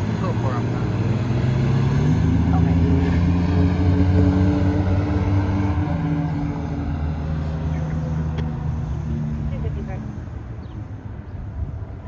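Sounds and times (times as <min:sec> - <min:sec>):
diesel truck engine droning: 0:00.0 - 0:11.8.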